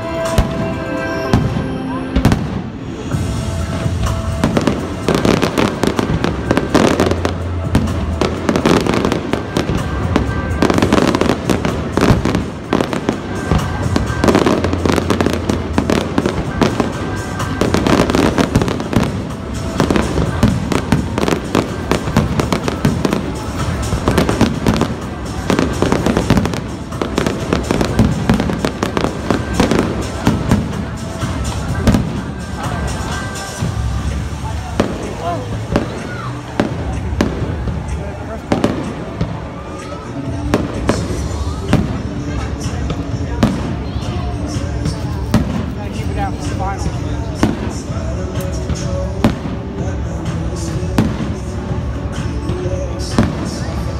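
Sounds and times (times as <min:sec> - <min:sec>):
music playing: 0:00.0 - 0:53.9.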